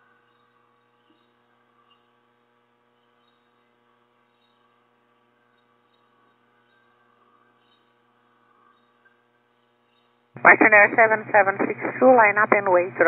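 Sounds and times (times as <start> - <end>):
faint electrical hum with hiss: 0.0 - 13.0.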